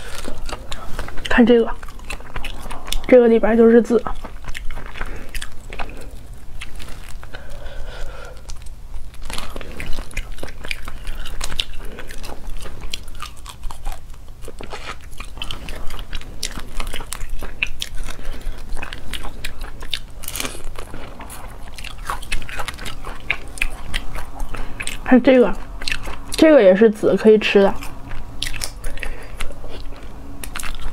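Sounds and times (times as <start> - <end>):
crunching crayfish shells: 4.0 - 26.5, 27.8 - 30.9.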